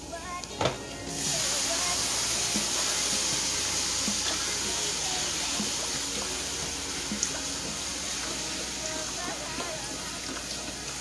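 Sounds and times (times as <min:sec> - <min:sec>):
food sizzling in pan: 0:00.0 - 0:11.0
broth pouring into pan: 0:01.1 - 0:11.0.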